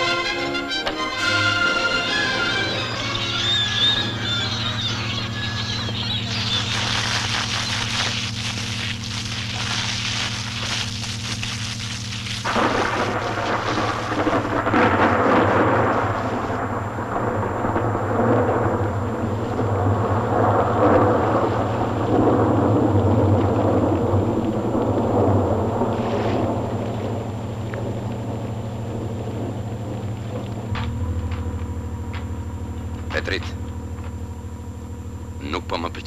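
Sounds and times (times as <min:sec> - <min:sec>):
steady low hum: 0:00.0 - 0:36.0
thunder rumbling: 0:01.2 - 0:35.6.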